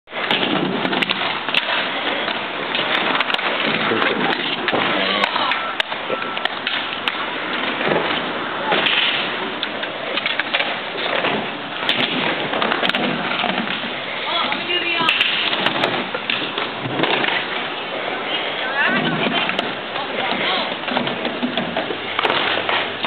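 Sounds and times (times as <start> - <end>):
skateboard wheels rolling on concrete: 0.0 - 23.0
skateboards clacking on ground: 0.1 - 23.0.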